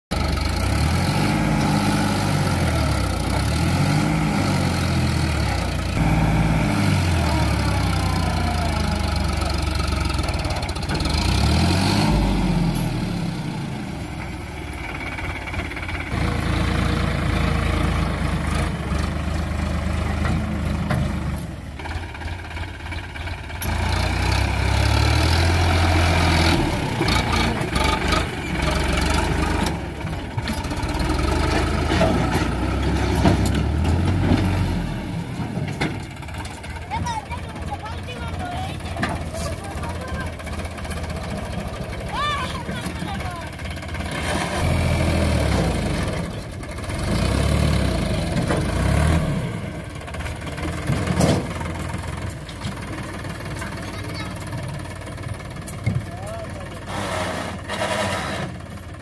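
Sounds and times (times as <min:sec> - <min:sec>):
tractor diesel engine revving: 0:00.1 - 0:59.0.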